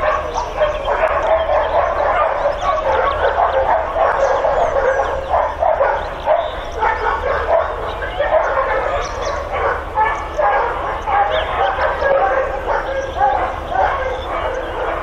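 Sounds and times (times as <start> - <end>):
many dogs barking: 0.0 - 15.0.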